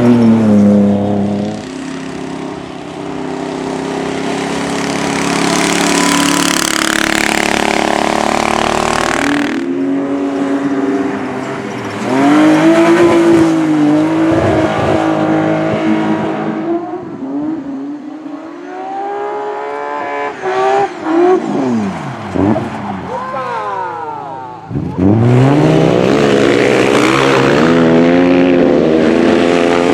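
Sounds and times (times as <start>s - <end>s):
car engine revving: 0.0s - 23.3s, 24.0s - 29.9s.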